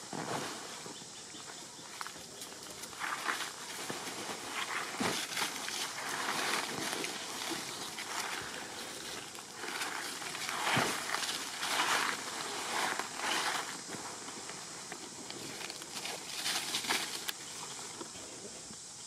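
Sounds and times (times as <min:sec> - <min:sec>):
footsteps crunching through dry leaves: 0:02.0 - 0:18.1.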